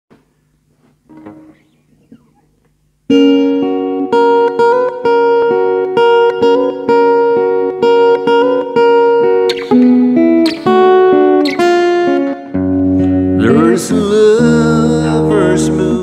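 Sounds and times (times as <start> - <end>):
acoustic guitar picked notes: 1.1 - 16.0.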